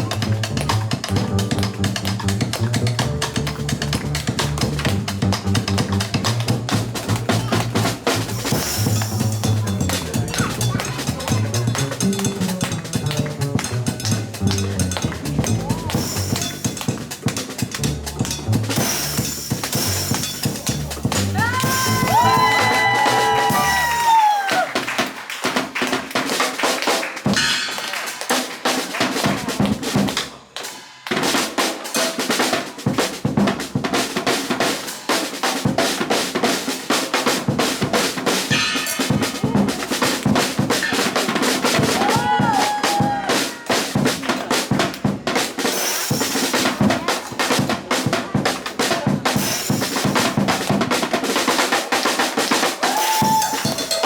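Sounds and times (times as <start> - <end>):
jazz drum kit playing: 0.0 - 54.0.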